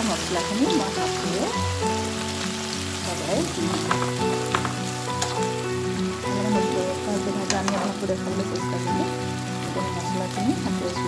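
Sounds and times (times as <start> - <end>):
fish sizzling in hot oil: 0.0 - 11.0
soft background music: 0.0 - 11.0.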